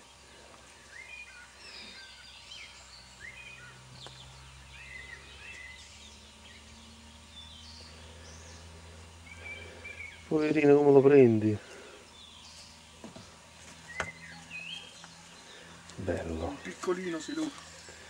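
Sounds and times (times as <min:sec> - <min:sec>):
songbirds chirping and whistling: 0:00.0 - 0:18.0.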